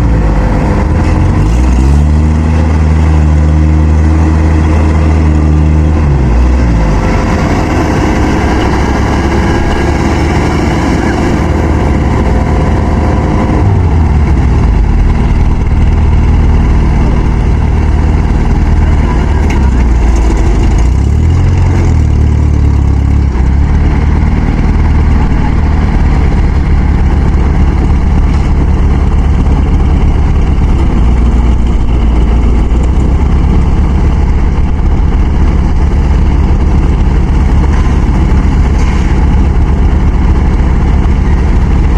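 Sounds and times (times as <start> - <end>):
heavy farm machine engines: 0.0 - 41.9.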